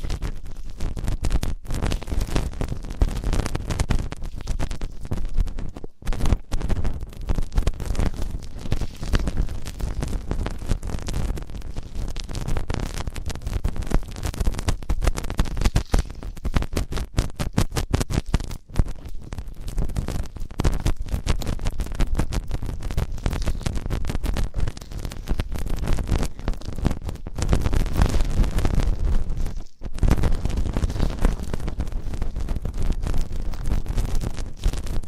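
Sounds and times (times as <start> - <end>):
scratching against microphone: 0.0 - 35.0.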